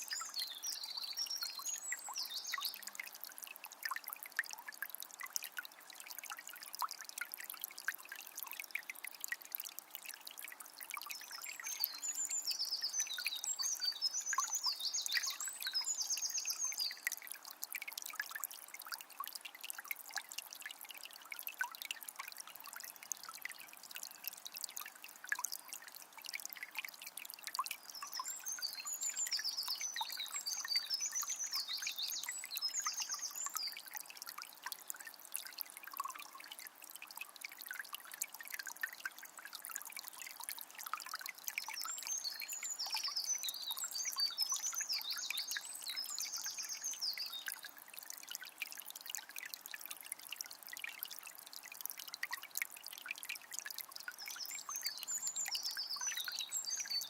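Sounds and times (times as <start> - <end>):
spring water trickling: 0.0 - 57.0.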